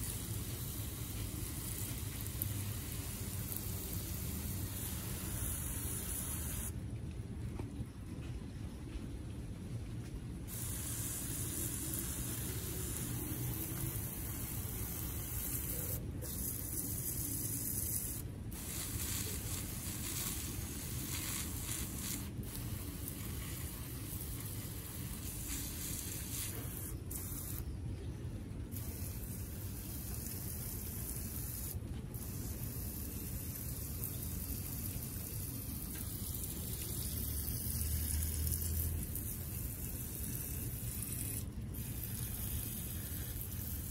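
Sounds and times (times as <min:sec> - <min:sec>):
water hissing from hose nozzle: 0:00.0 - 0:06.7, 0:10.5 - 0:27.6, 0:28.7 - 0:43.9.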